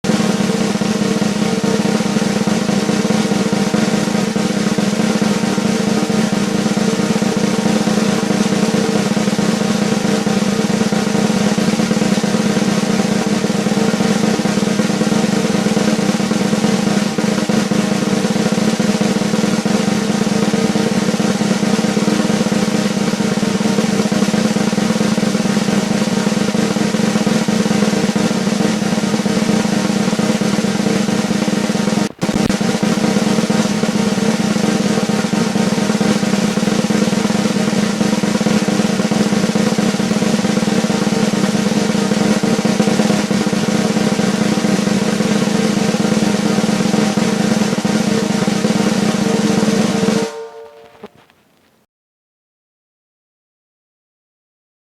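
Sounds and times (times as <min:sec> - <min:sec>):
drum roll: 0:00.0 - 0:51.4.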